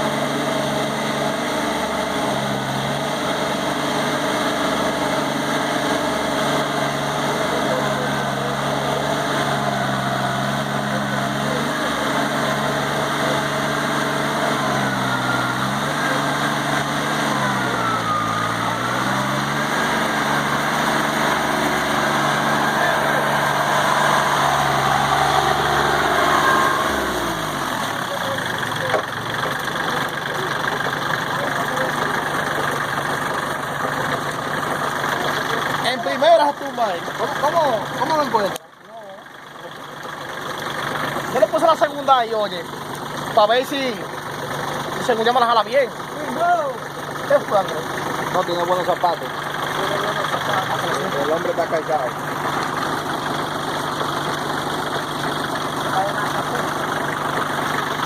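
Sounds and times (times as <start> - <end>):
tractor diesel engine lugging: 0.0 - 58.0.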